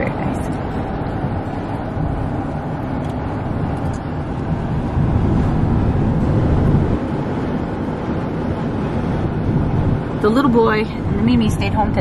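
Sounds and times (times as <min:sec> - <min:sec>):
road noise inside van: 0:00.0 - 0:12.0.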